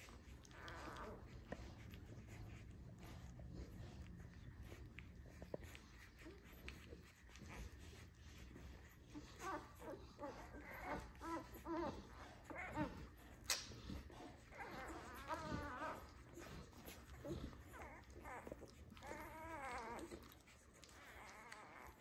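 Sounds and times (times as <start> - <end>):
puppies squeaking and whimpering: 0.0 - 22.0
puppy wavering whine: 0.0 - 22.0.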